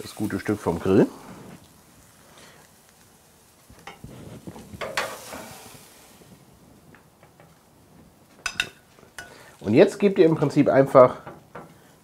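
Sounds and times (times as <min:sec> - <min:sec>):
steak sizzle and scrape: 0:00.0 - 0:12.0.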